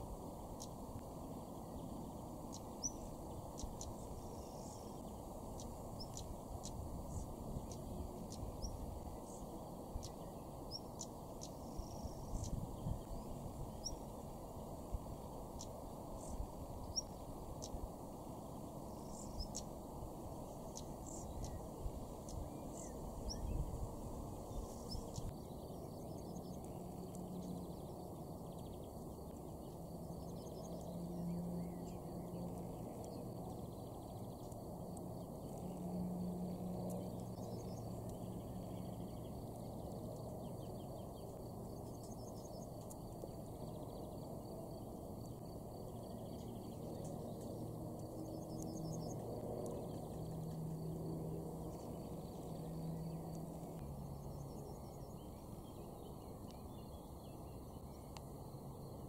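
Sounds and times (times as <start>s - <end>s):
low background hiss: 0.0s - 59.0s.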